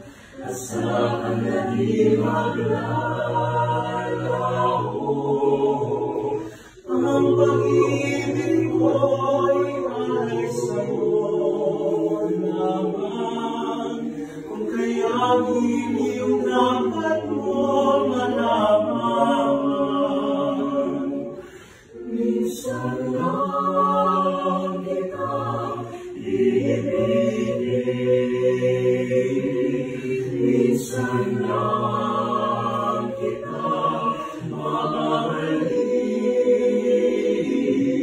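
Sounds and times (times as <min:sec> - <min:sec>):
small choir singing a cappella: 0:00.0 - 0:38.0.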